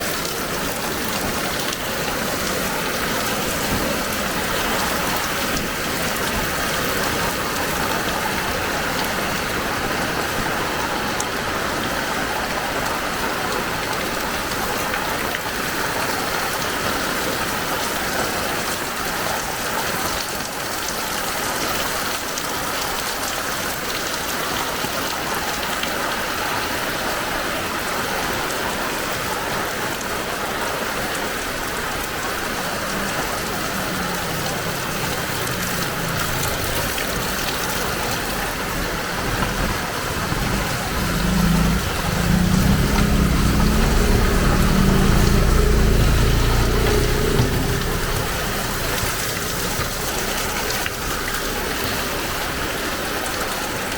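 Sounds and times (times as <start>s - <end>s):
heavy rain pattering: 0.0s - 53.9s.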